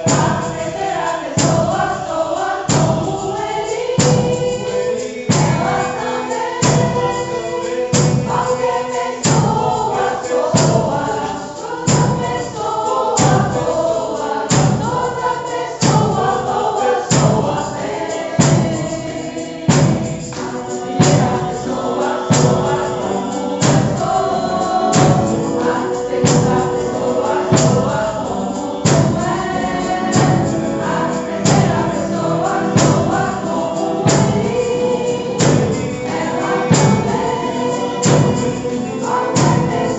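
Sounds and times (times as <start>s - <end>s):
group of voices singing: 0.0s - 39.9s
percussion steady beat: 0.0s - 39.9s.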